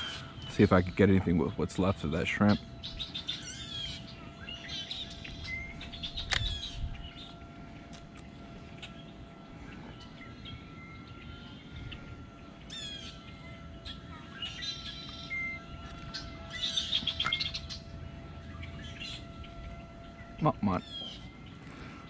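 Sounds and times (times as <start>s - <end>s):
birds chirping and trilling: 0.0s - 22.0s
faint steady whine: 0.0s - 22.0s.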